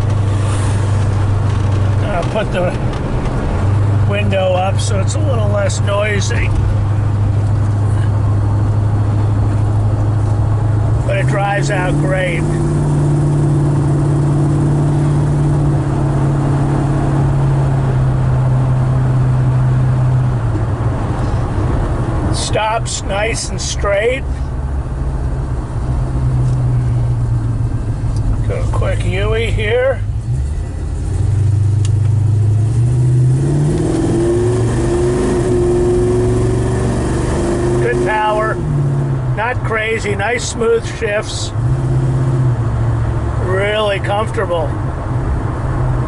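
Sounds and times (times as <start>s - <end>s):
car engine drone in cabin: 0.0s - 46.0s.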